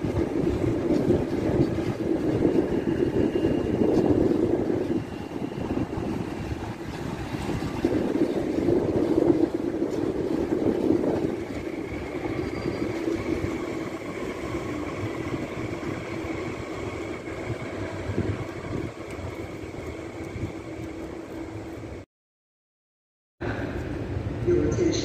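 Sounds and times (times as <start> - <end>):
electric train humming: 0.0 - 22.0.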